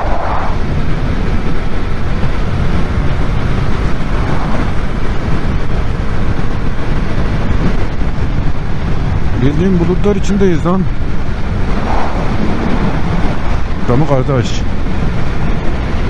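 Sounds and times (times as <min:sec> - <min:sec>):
motorcycle engine: 0:00.0 - 0:16.0
wind rushing on microphone: 0:00.0 - 0:16.0.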